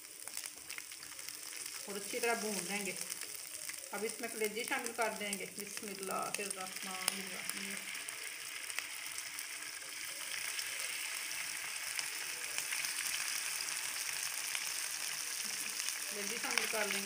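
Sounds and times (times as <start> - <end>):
liver sizzling in hot oil: 0.0 - 17.0.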